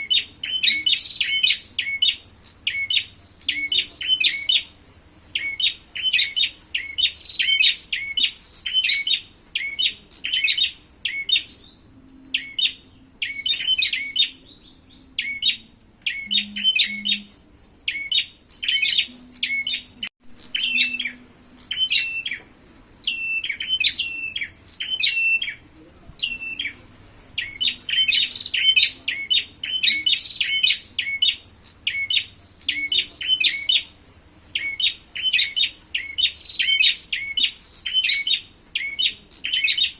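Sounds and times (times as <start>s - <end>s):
songbirds sharp chirping: 0.0s - 39.9s.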